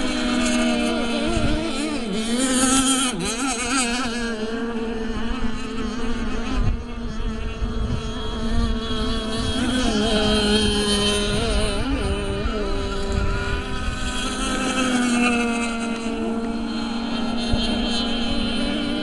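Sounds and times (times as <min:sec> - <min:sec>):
rc boat motors buzzing: 0:00.0 - 0:19.0.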